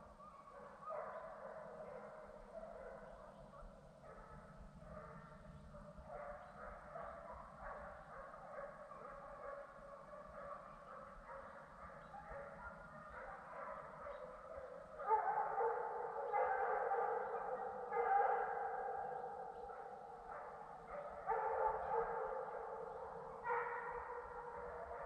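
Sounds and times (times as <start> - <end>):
hounds baying: 0.1 - 3.4, 4.0 - 25.0.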